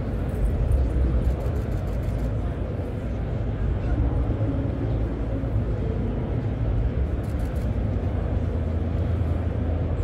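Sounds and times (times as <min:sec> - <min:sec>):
crowd murmur: 0:00.0 - 0:10.0.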